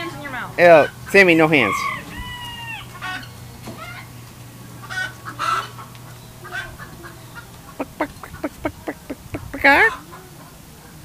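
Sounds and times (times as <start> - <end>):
chickens clucking: 0.9 - 11.0.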